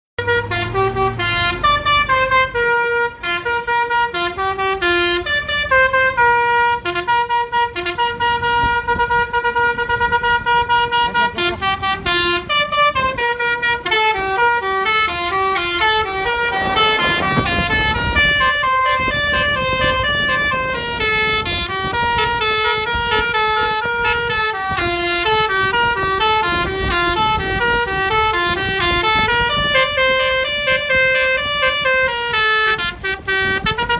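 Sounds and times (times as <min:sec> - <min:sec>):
musical horn playing a tune: 0:00.2 - 0:33.9.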